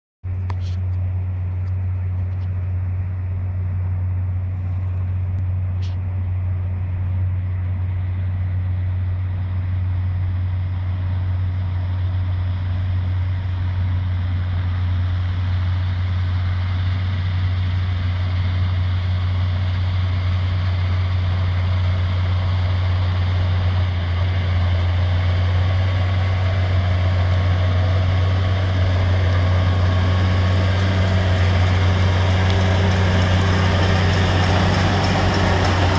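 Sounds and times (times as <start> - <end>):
tractor and baler droning: 0.3 - 35.9.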